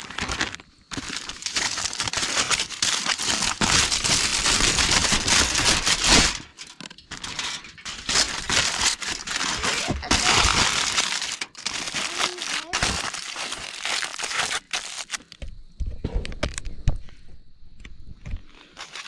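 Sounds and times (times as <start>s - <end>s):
loud crinkling and rustling: 0.0s - 16.8s, 18.4s - 19.0s.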